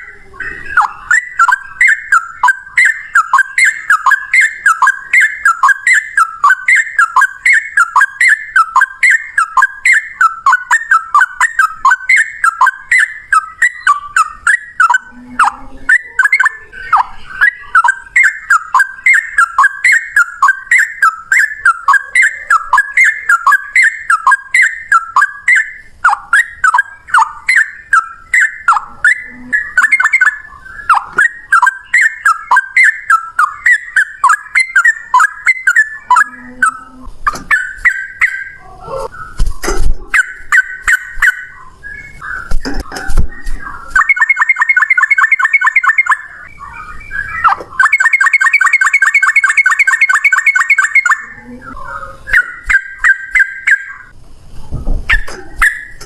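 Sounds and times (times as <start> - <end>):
bulbul singing rapid chirps: 0.0 - 54.2.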